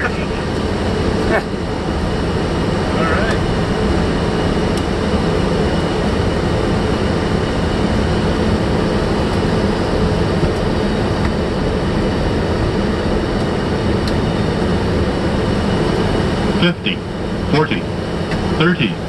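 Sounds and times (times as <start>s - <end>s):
cockpit airflow and engine noise: 0.0s - 19.0s.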